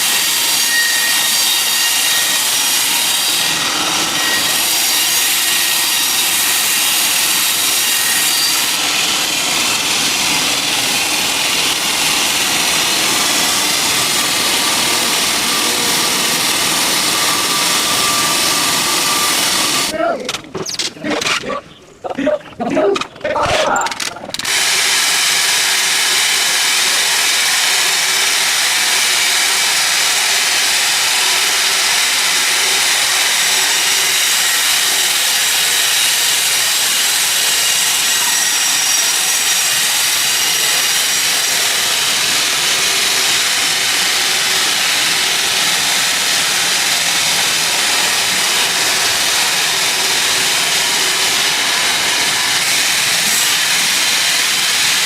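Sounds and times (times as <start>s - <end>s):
sawmill saw cutting log: 0.0s - 21.8s, 22.6s - 55.0s.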